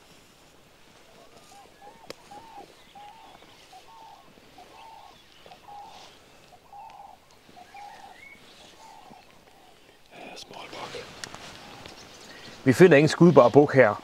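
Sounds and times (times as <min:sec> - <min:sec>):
bird low hooting call: 0:01.0 - 0:12.6
faint bird chirps: 0:01.0 - 0:13.7.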